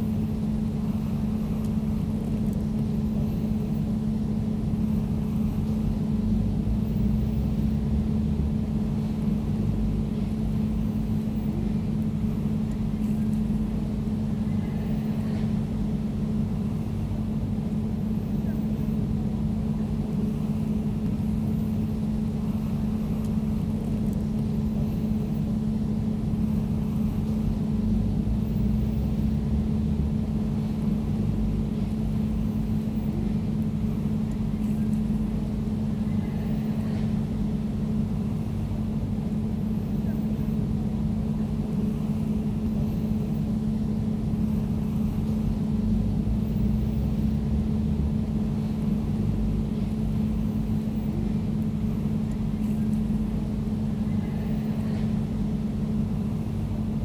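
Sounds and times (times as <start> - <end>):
air conditioner humming: 0.0 - 57.0.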